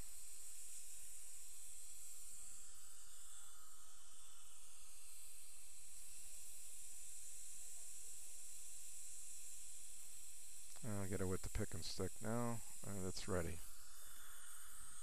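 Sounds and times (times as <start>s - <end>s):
faint low hum: 0.0s - 15.0s
high-pitched hiss: 0.0s - 15.0s.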